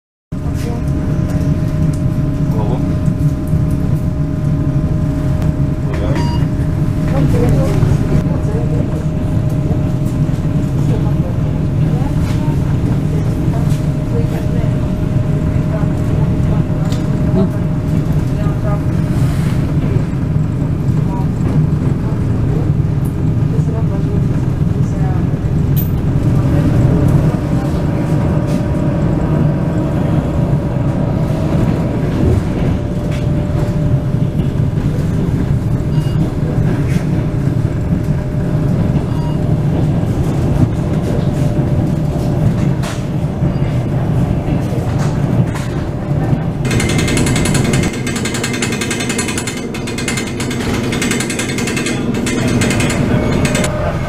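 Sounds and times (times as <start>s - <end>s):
train rumble from inside carriage: 0.3s - 54.0s
wheels and carriage rattling: 5.6s - 54.0s.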